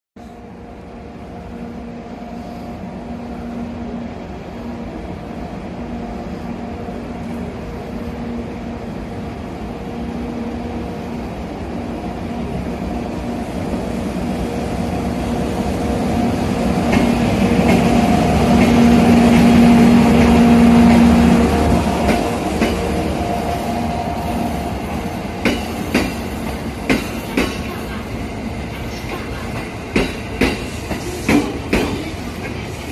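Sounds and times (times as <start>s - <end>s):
electric locomotive hum and rumble: 0.2s - 32.9s.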